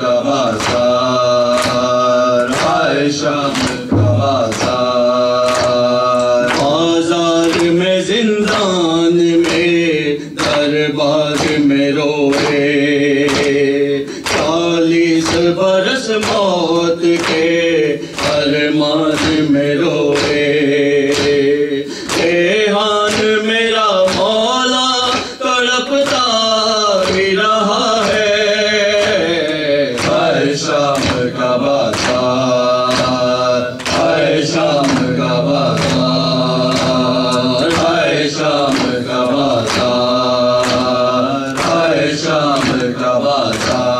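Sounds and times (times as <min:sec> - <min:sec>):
men chanting a lament: 0:00.0 - 0:43.9
reciter on a microphone: 0:00.0 - 0:43.9
rhythmic chest-beating slaps: 0:00.0 - 0:43.9.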